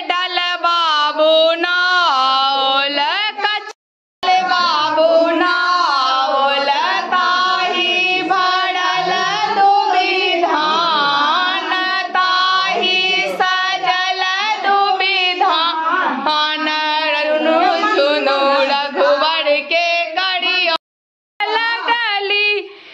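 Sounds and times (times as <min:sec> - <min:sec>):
women singing together: 0:00.0 - 0:20.8, 0:21.4 - 0:22.8.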